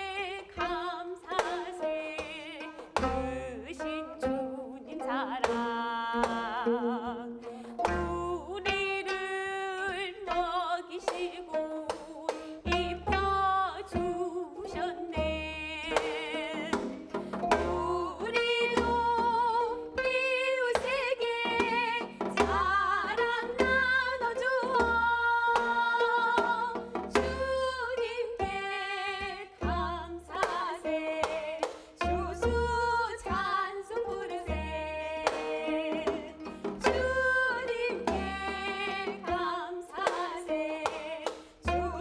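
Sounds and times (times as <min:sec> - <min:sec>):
woman singing: 0:00.0 - 0:42.0.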